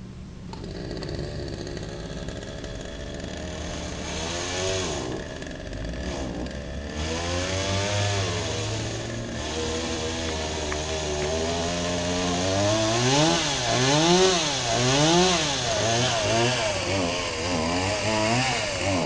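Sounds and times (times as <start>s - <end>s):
chainsaw engine revving: 0.5s - 19.0s.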